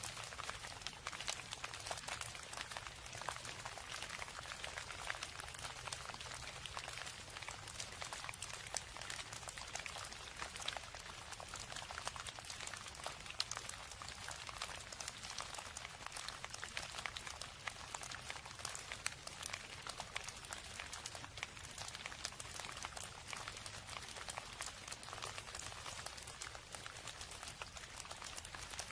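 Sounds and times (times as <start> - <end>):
raindrops ticking: 0.0 - 28.9
steady rain hiss: 0.0 - 28.9.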